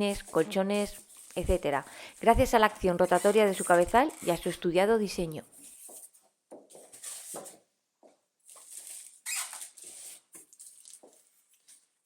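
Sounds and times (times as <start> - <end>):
parts and packaging being handled: 0.0 - 4.8, 5.5 - 7.7, 8.4 - 12.0.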